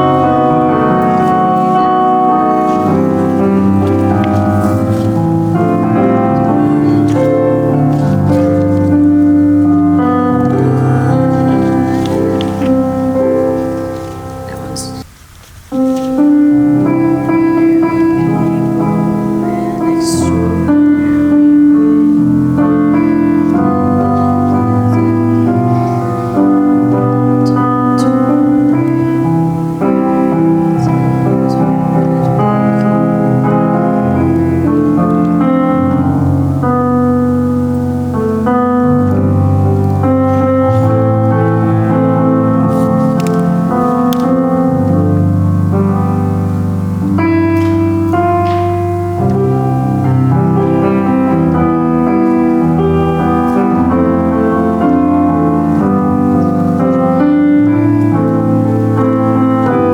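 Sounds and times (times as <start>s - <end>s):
piano playing sustained chords: 0.0s - 15.1s, 15.7s - 59.9s.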